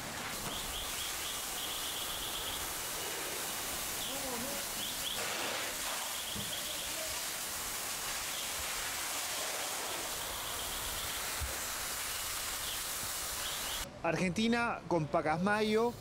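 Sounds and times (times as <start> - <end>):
fire hose water spray hissing: 0.0 - 13.9.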